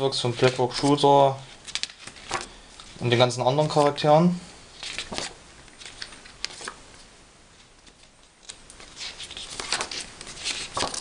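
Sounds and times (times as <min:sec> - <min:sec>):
card rustling and crackling: 0:00.1 - 0:04.1, 0:04.7 - 0:11.0.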